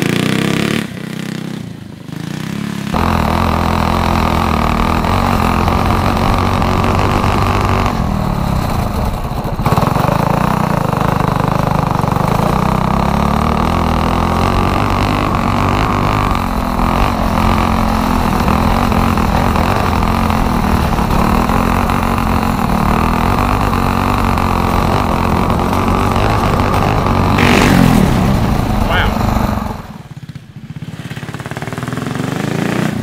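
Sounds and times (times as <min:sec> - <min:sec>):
go-kart engine running: 0:00.0 - 0:33.0.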